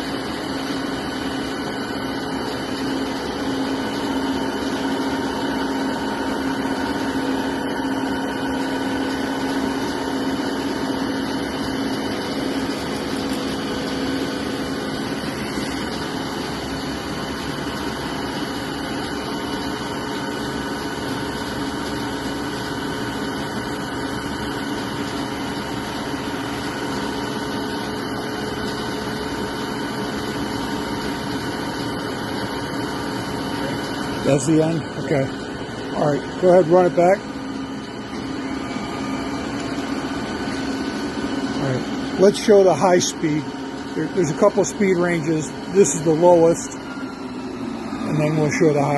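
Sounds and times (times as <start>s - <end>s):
drilling machine mechanical hum: 0.0s - 48.9s.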